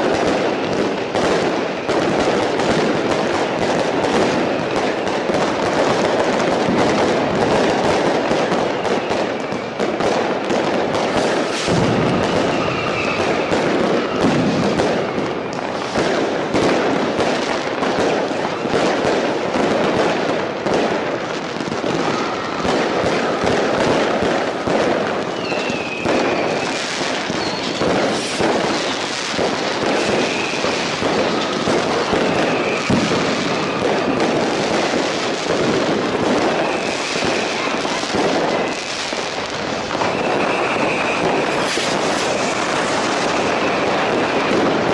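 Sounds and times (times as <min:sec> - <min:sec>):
firecrackers crackling and banging: 0:00.0 - 0:44.9
fireworks whistling: 0:00.0 - 0:44.9.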